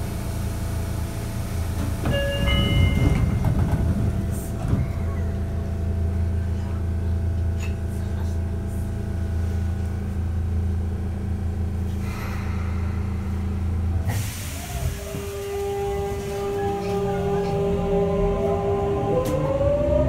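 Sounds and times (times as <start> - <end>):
train running hum: 0.0 - 20.0.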